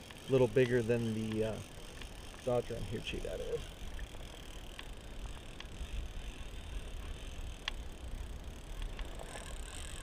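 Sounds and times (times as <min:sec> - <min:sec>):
fishing reel gear whirring: 0:00.0 - 0:10.0
light reel clicks: 0:00.0 - 0:10.0.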